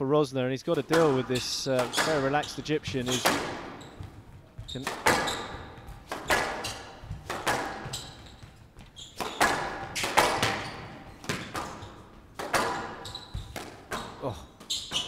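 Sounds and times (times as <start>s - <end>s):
squash ball hitting rackets and walls: 0.8s - 15.0s.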